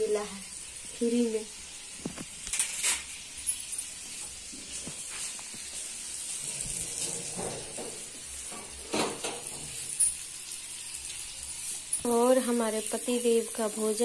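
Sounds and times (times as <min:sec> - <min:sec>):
eggplant slices sizzling in pans: 0:00.0 - 0:14.0.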